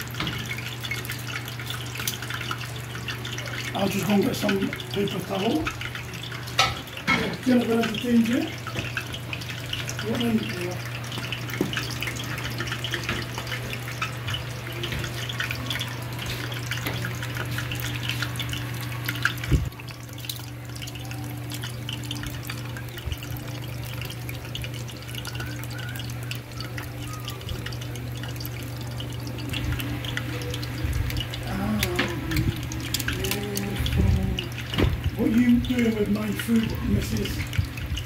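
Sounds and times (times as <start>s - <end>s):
electric fan humming: 0.0s - 38.0s
oil sizzling while deep-frying: 0.0s - 38.0s.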